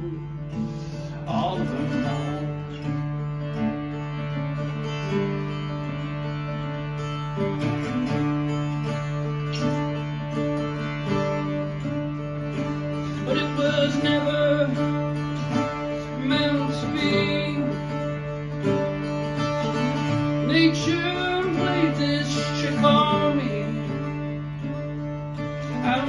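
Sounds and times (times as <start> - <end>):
acoustic guitar folk melody: 0.0 - 26.0
low drone note: 0.0 - 26.0.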